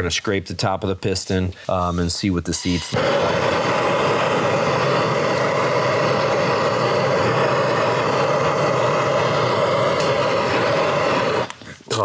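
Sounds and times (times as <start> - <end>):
gas torch burning: 1.9 - 11.8.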